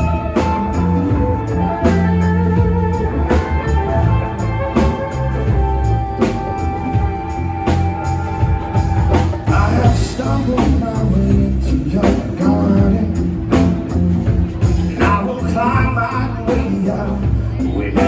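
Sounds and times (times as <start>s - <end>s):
bass guitar: 0.0s - 18.0s
steady drum beat: 0.0s - 18.0s.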